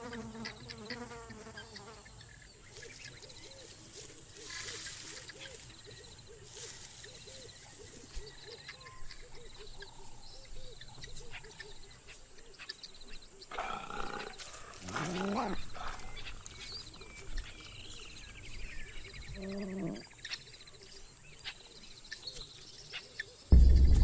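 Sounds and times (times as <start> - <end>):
insects trilling and chirping: 0.0 - 23.8.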